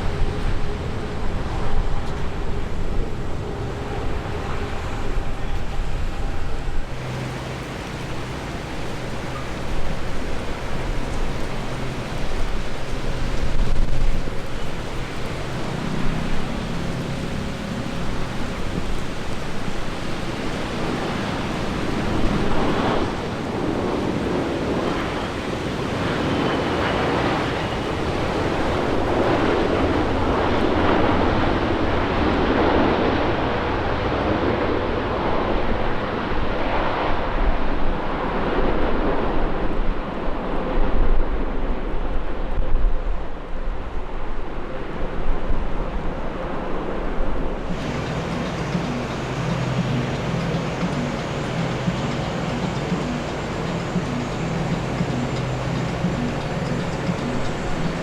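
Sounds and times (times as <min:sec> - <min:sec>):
jet airliner roar: 0:00.0 - 0:58.0
wind on microphone: 0:00.0 - 0:58.0.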